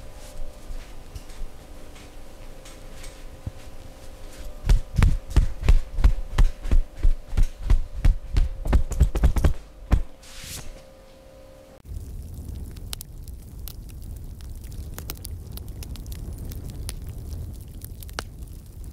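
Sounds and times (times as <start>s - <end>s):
faint steady hum: 0.0s - 17.5s.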